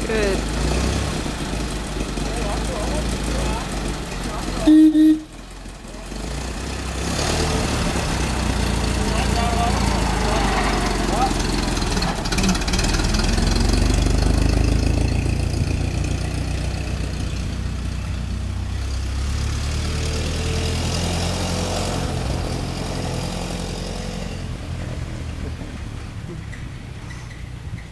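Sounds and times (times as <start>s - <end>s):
car engine running: 0.0s - 27.9s.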